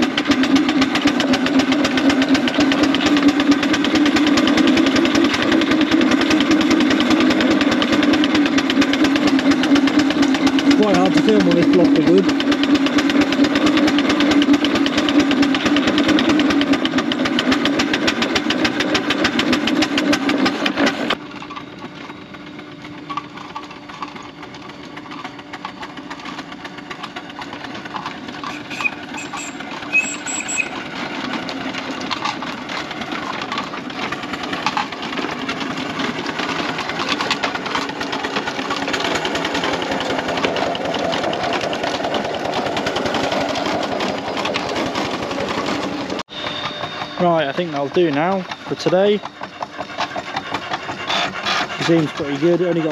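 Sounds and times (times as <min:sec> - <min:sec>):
steam traction engine chuffing: 0:00.0 - 0:52.9.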